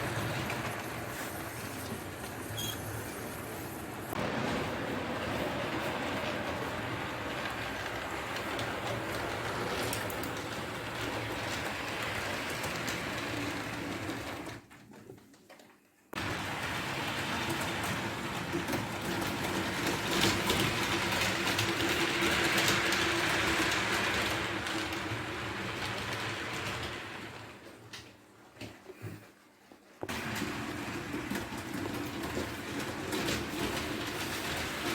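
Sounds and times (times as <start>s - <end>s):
wheels rattling over track: 0.0s - 14.6s, 16.2s - 28.1s, 30.1s - 34.9s.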